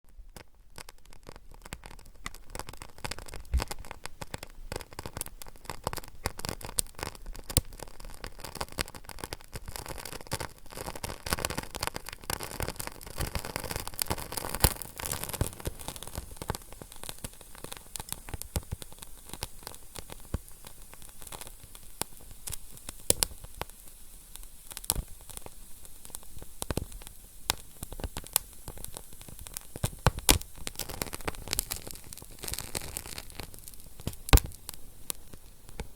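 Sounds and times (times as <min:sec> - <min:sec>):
fire crackling: 0:00.1 - 0:35.9.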